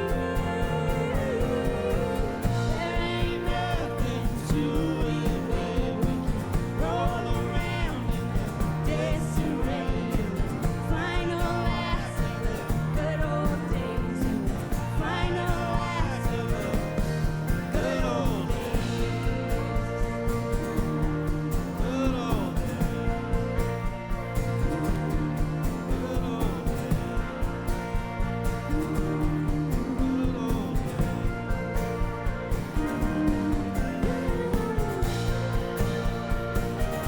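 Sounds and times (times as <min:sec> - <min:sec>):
live band playing rock: 0:00.0 - 0:37.0
steady drum beat: 0:00.0 - 0:37.0.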